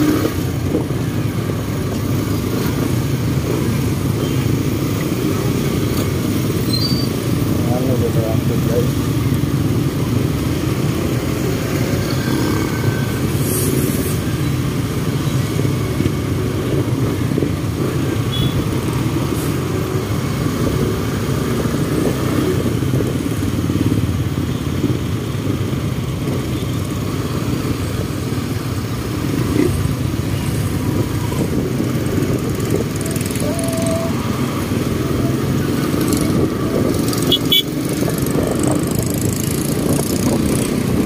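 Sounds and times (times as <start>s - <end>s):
motorcycle engines in traffic: 0.0s - 41.0s.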